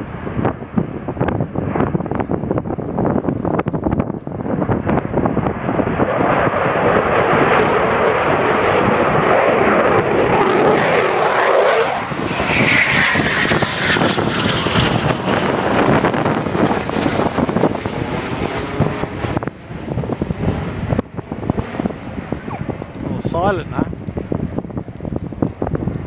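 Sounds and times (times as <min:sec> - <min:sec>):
fighter jet flying by: 0:00.0 - 0:26.0.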